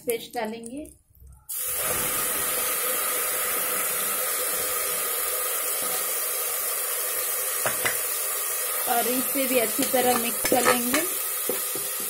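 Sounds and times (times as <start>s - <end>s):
paste sizzling in hot oil: 1.5s - 12.0s.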